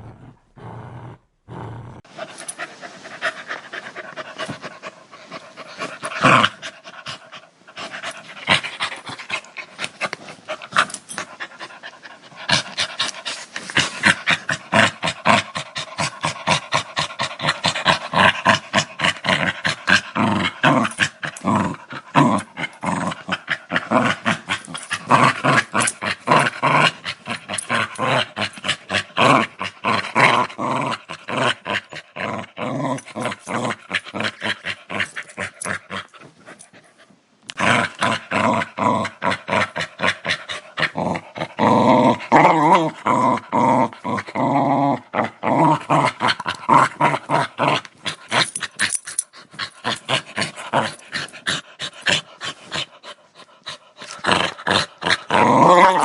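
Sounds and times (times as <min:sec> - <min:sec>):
dog growling: 0:00.0 - 0:02.6, 0:03.2 - 0:36.3, 0:37.5 - 0:56.0.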